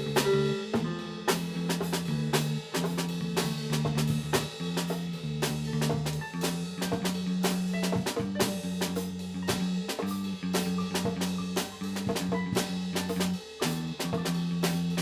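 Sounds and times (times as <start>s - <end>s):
drum kit beat: 0.0s - 15.0s
held bass notes: 0.0s - 15.0s.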